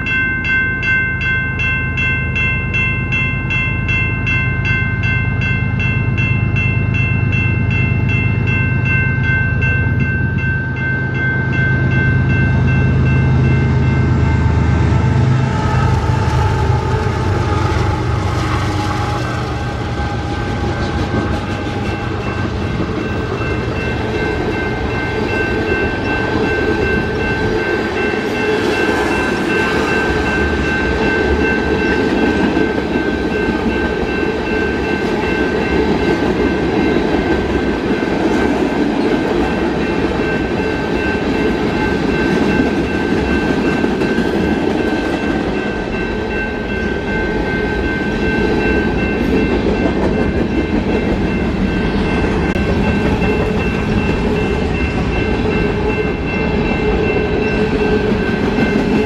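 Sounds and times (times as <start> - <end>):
crossing bell ringing: 0.0 - 59.0
freight train wheels rumbling: 0.0 - 59.0.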